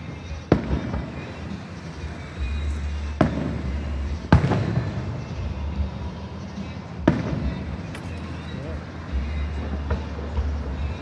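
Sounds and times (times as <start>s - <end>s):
fireworks bursting with echo: 0.0s - 11.0s.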